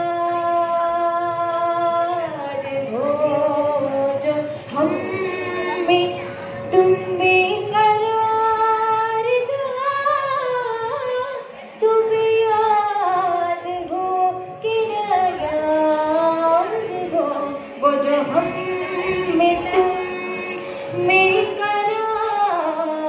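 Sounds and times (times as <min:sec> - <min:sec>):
girl singing: 0:00.0 - 0:23.0.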